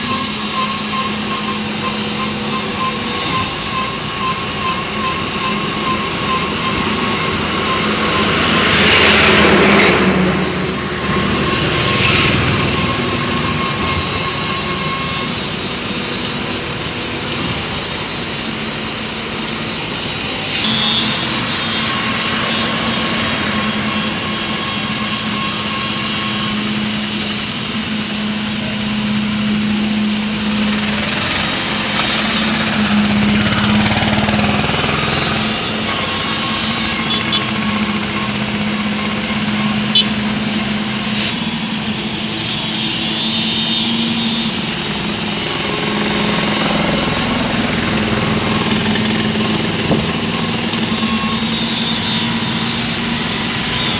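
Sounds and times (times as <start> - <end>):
heavy machinery engine humming: 0.0 - 53.9.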